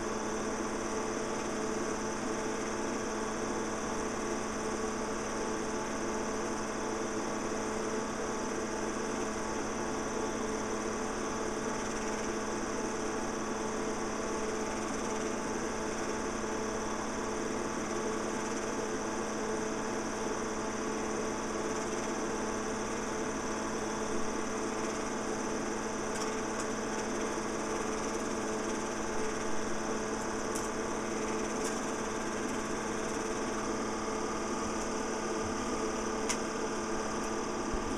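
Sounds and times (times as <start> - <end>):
film projector whirring: 0.0 - 37.9.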